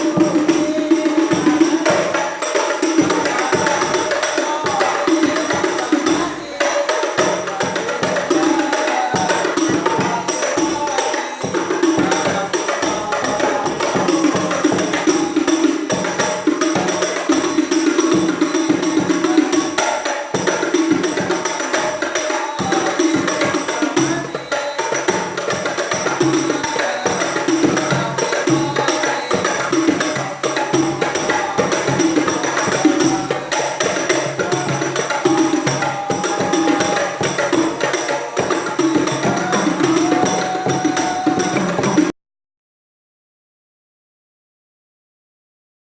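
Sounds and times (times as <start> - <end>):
frame drums playing: 0.0 - 42.1.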